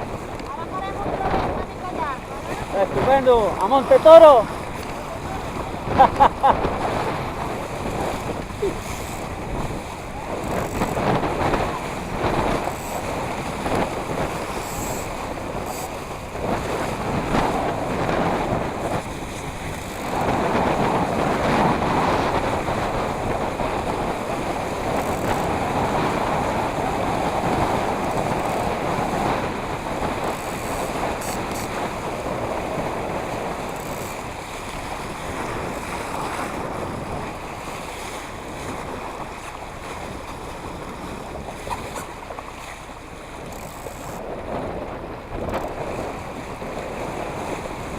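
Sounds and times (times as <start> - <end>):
waves and water splashing: 0.0 - 47.9
wind buffeting microphone: 0.0 - 47.9.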